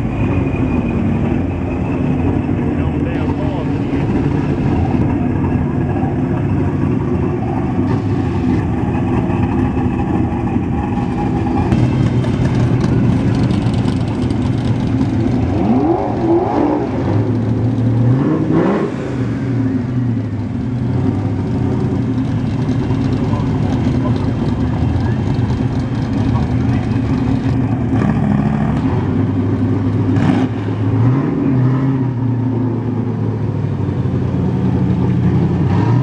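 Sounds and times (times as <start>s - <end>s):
sports car engines idling: 0.0s - 31.0s, 32.1s - 36.0s
car passing with deep engine: 0.0s - 36.0s.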